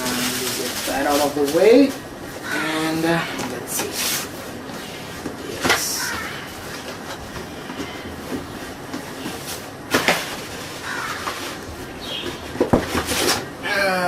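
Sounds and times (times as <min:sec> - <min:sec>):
cardboard rustling and scraping: 0:00.0 - 0:02.5, 0:03.4 - 0:13.5.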